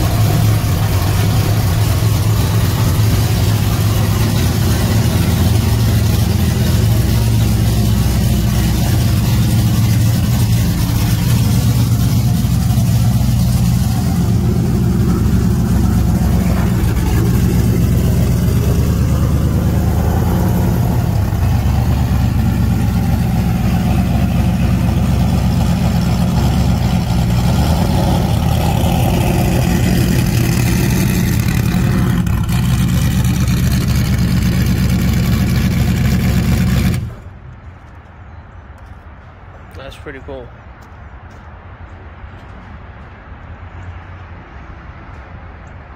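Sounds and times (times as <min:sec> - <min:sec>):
race engine running loud: 0:00.0 - 0:37.2.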